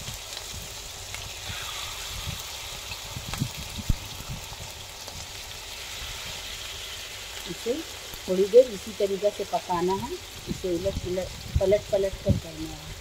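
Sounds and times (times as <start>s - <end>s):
meat sizzling in oil in a pan: 0.0s - 13.0s.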